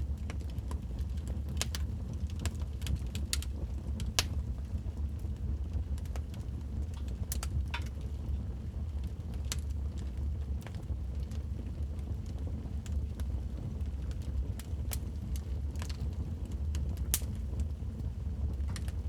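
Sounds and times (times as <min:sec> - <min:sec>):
fire flames rumbling: 0:00.0 - 0:19.0
wood fire crackling and popping: 0:00.0 - 0:19.0.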